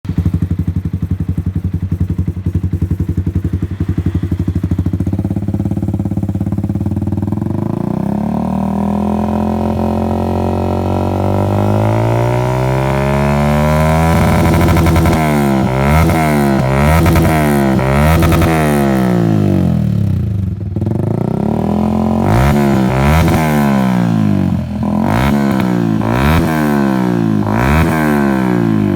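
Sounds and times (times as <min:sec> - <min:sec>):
motorcycle engine idling: 0:00.1 - 0:28.9
motorcycle engine revving: 0:00.1 - 0:28.9.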